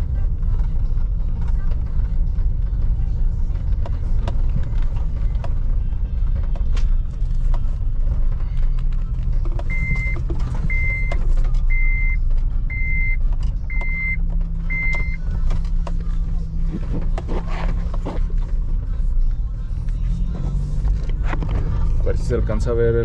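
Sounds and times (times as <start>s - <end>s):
car engine rumble in cabin: 0.0s - 23.0s.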